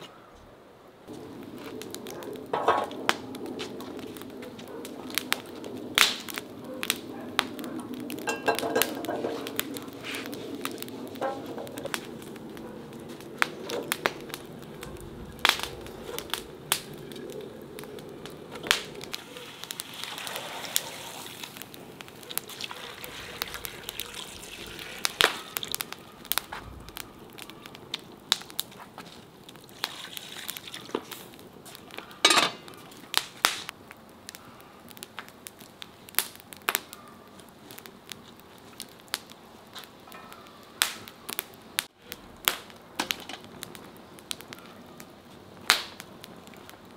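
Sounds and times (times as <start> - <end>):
wood fire crackling and popping: 1.0 - 46.9.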